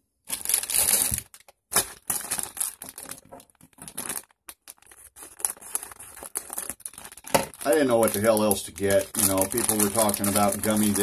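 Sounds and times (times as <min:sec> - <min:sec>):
plastic bag crinkling: 0:00.3 - 0:11.0
plastic bag tearing: 0:00.3 - 0:11.0.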